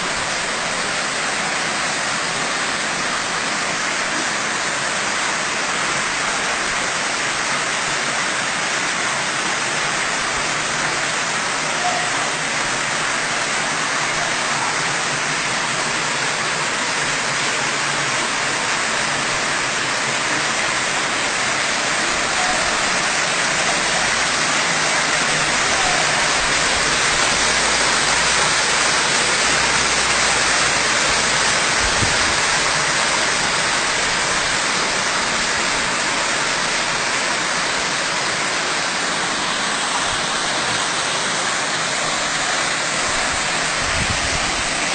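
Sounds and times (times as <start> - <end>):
waterfall fountain splashing: 0.0 - 44.9.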